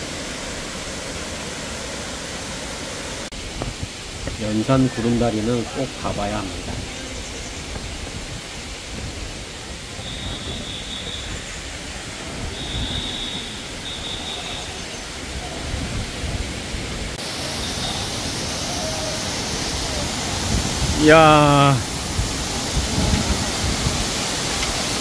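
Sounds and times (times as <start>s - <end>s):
mountain stream and waterfall rushing: 0.0s - 10.0s, 14.4s - 25.0s.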